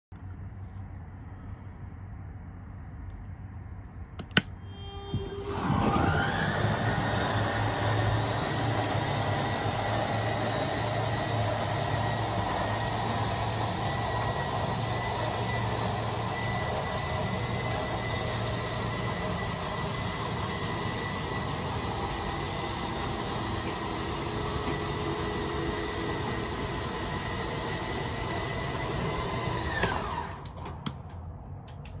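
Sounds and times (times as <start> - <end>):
electric motor whining: 4.6 - 30.5.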